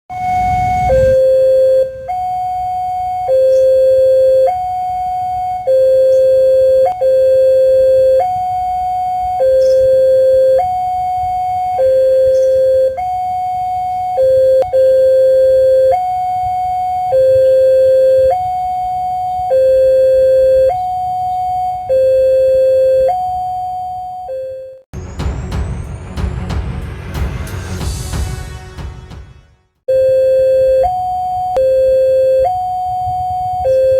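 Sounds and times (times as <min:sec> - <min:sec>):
two-tone hi-lo siren: 0:00.1 - 0:24.8, 0:29.9 - 0:33.9.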